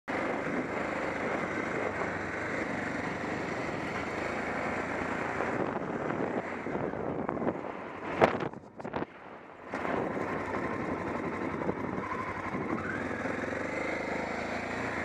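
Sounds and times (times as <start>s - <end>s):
small vehicle engine running: 0.1s - 8.9s, 9.6s - 15.0s.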